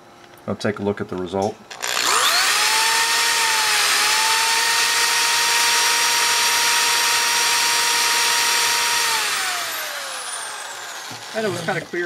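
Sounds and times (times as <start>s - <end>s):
electric drill running: 1.7s - 12.0s.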